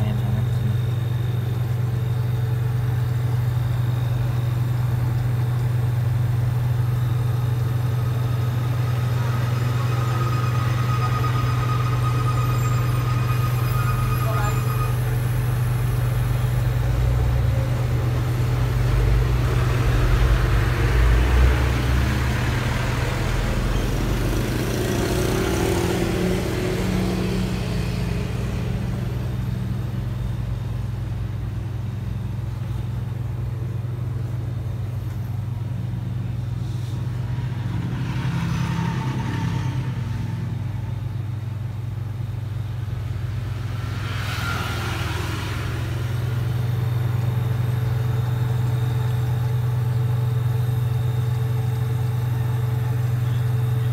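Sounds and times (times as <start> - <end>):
fridge compressor humming: 0.0 - 53.9.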